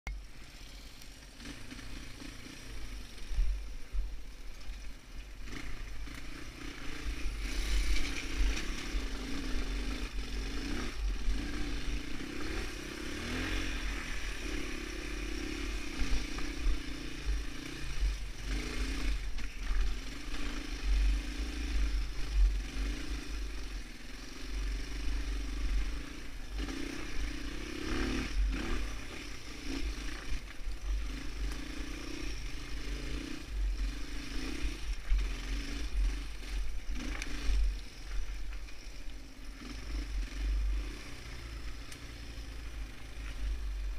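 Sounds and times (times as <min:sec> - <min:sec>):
motorcycle engine revving: 0:00.1 - 0:43.9.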